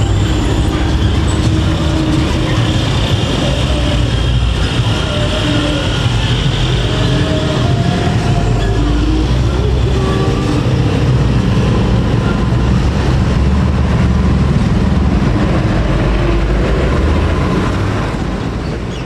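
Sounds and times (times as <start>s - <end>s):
truck diesel engine: 0.0s - 19.0s.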